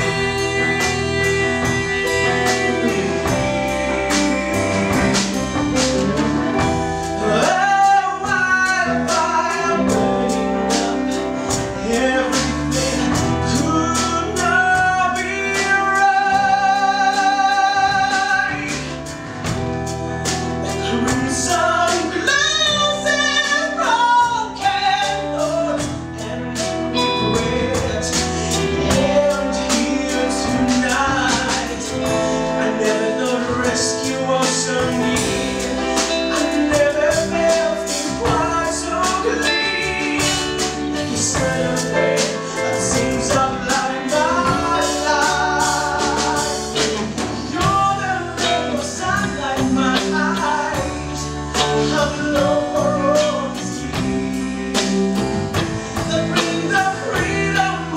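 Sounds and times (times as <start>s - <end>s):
drums: 0.0s - 57.9s
man singing with vibrato: 0.0s - 57.9s
piano: 0.0s - 57.9s.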